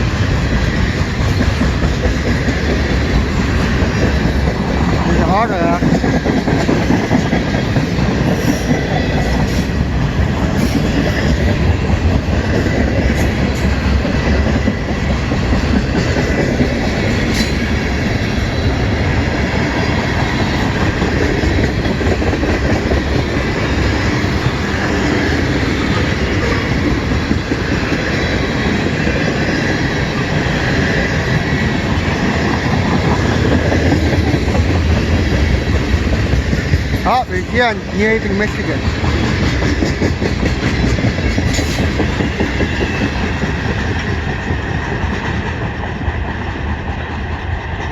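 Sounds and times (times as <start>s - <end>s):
freight train wheels rumbling: 0.0s - 47.9s
wheels clicking over rail joints: 0.2s - 47.9s.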